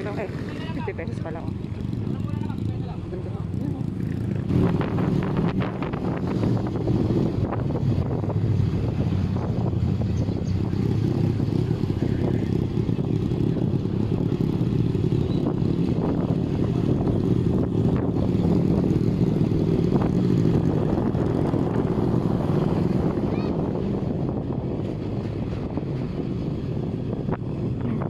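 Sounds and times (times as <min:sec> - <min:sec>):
motorcycle engine running: 0:00.0 - 0:28.0
road noise: 0:00.0 - 0:28.0.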